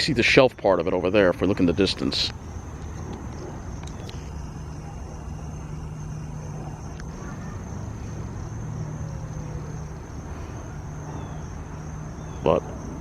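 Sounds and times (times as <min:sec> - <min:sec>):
distant road traffic: 0:00.0 - 0:13.0
high insect trill: 0:00.0 - 0:13.0.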